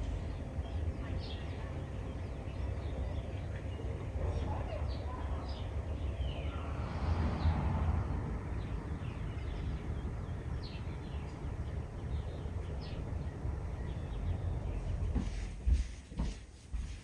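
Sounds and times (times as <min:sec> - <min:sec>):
steady low rumble: 0:00.0 - 0:15.1
small birds chirping: 0:00.0 - 0:16.5.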